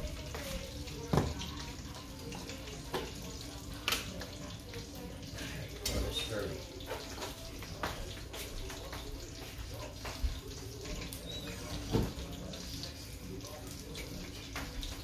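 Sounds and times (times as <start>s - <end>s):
sauce sizzling in pans: 0.0s - 15.0s.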